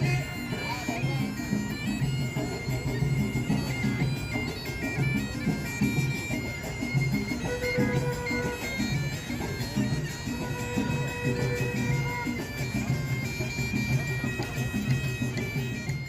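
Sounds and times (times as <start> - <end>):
shrill reed wind instrument melody: 0.0 - 16.0.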